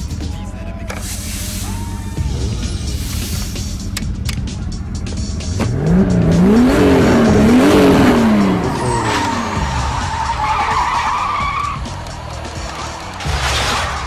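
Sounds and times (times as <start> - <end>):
car engine revving: 1.0 - 14.0.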